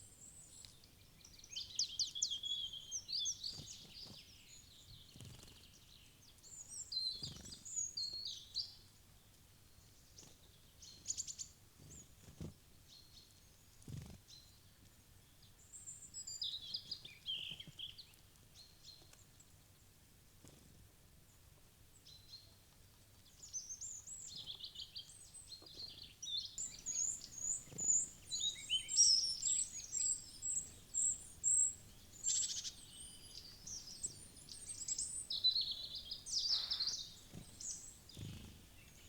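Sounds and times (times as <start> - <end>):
songbirds chirping: 0.0 - 20.6, 21.3 - 39.0.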